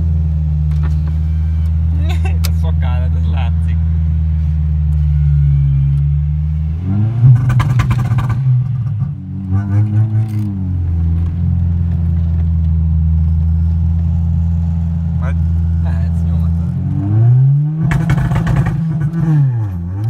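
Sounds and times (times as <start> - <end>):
car engine drone from cabin: 0.0 - 20.0.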